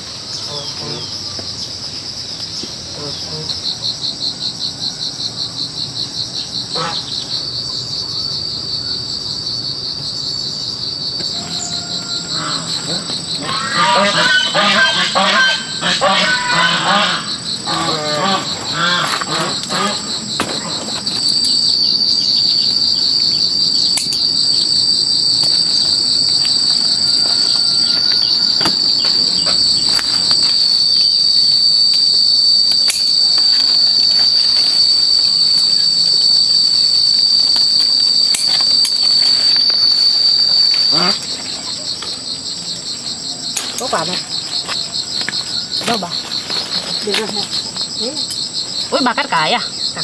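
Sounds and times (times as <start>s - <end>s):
high-pitched insect drone: 0.0s - 50.0s.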